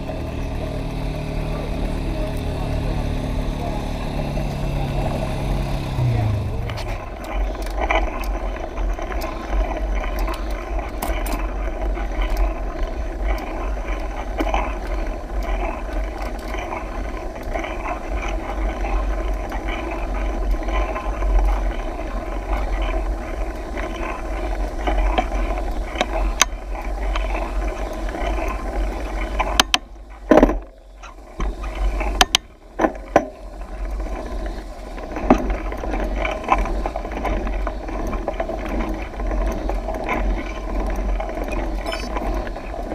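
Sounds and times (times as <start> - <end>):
bike tyre and drivetrain whirr: 0.0 - 42.9.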